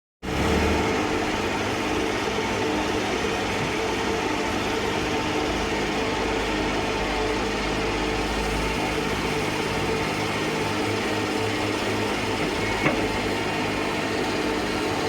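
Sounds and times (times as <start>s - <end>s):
machine drone with whine: 0.3s - 15.0s.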